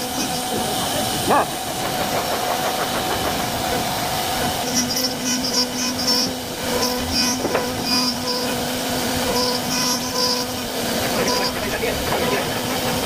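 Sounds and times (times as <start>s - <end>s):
cnc router machine hum: 0.0s - 13.0s.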